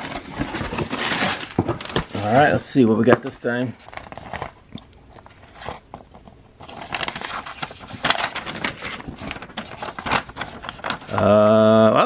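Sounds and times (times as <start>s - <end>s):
paper rustling and crinkling: 0.0s - 11.9s.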